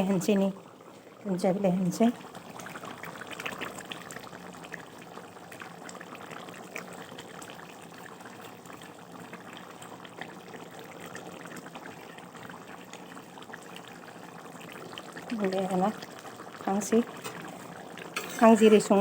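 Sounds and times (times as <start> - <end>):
curry bubbling in a pot: 0.0 - 19.0.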